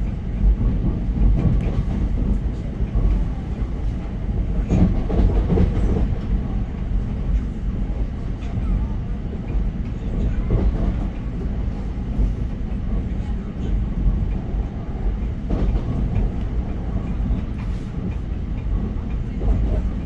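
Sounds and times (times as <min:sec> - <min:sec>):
electric train rumbling on rails: 0:00.0 - 0:20.0
rail clacks: 0:00.0 - 0:20.0.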